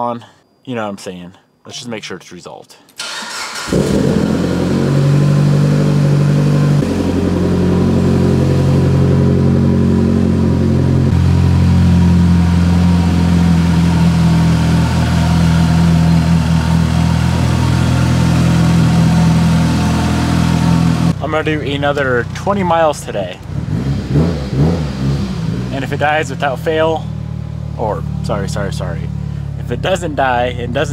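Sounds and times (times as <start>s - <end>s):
car engine starting and idling: 3.0s - 30.9s.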